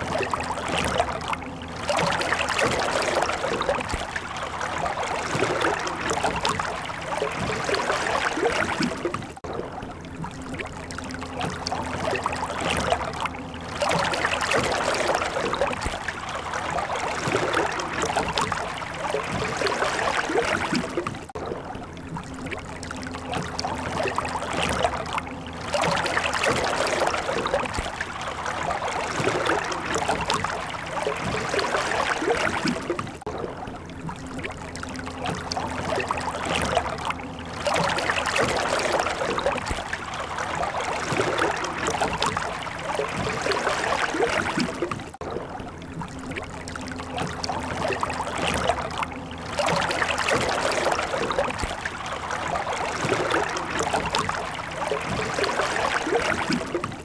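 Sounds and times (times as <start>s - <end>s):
rushing water-like noise: 0.0s - 9.5s, 10.2s - 33.3s, 34.0s - 45.3s, 46.0s - 57.0s.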